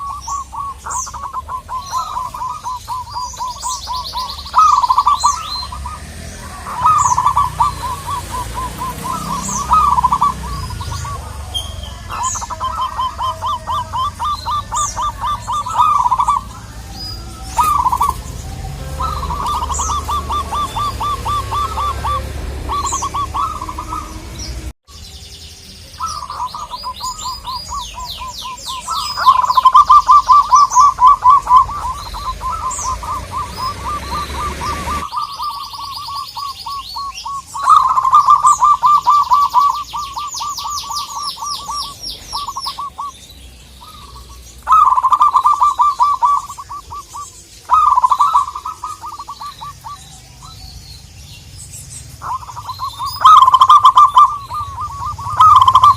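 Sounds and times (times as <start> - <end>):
doves cooing: 0.0 - 24.7, 25.8 - 55.9.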